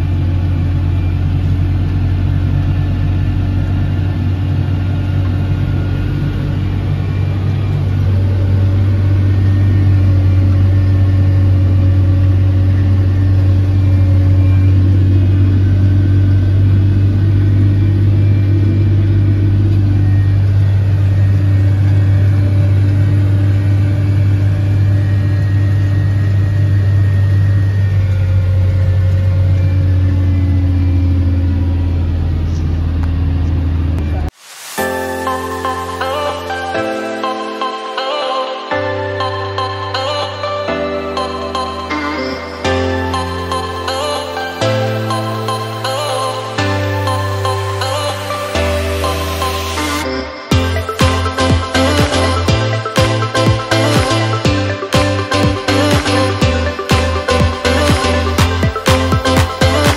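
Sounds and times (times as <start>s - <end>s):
tractor engine drone: 0.0s - 59.9s.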